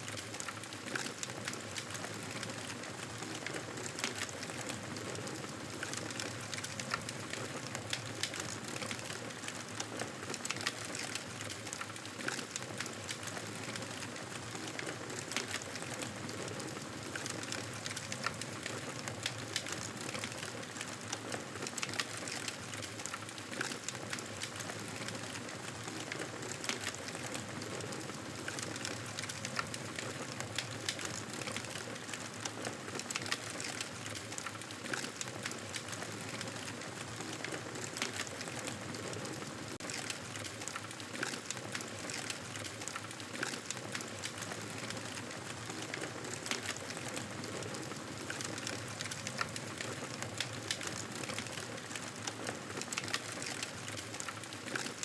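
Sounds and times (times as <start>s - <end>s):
campfire crackling and popping: 5.7s - 55.0s.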